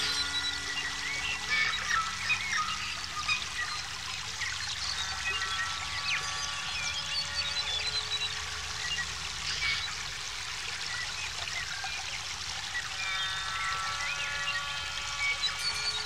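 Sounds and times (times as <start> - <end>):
ambient music held tones: 0.0 - 16.0
running water trickling: 0.0 - 16.0.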